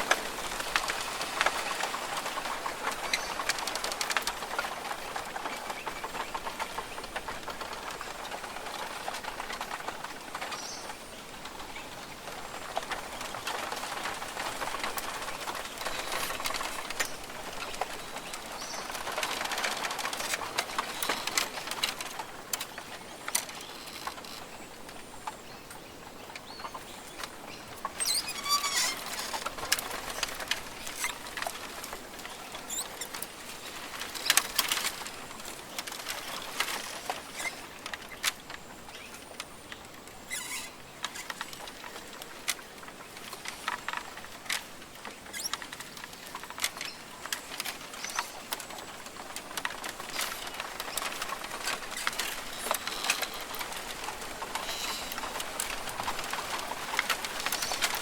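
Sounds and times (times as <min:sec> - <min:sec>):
sharp ticks and patters: 0:00.0 - 0:58.0.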